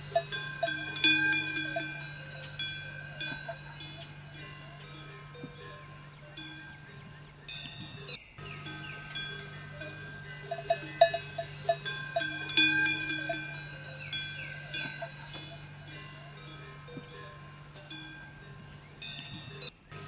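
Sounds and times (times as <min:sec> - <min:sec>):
livestock bells clanking: 0:00.0 - 0:20.0
steady low hum: 0:00.0 - 0:20.0.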